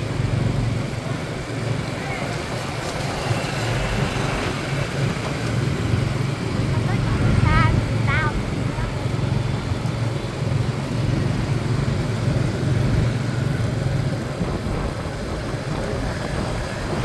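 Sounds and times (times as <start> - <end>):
street noise: 0.0 - 17.0
vehicle engine running: 0.0 - 17.0.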